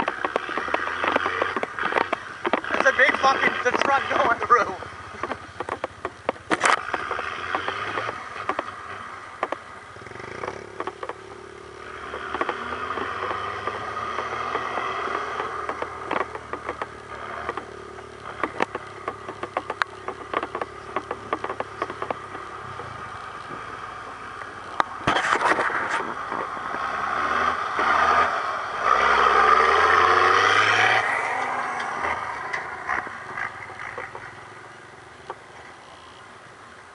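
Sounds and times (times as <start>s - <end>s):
brush cracking and scraping: 0.0s - 35.5s
truck engine labouring: 0.0s - 36.3s.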